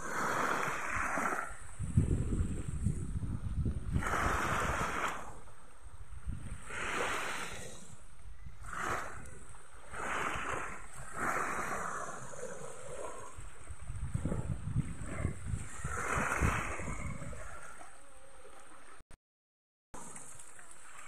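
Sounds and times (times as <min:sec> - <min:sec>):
small waves lapping on sand: 0:00.0 - 0:19.0, 0:20.0 - 0:21.0.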